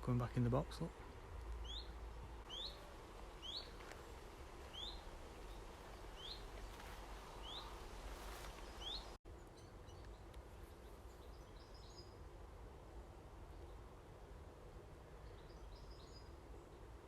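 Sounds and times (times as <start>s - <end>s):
low rumble of outdoor noise: 0.0s - 17.0s.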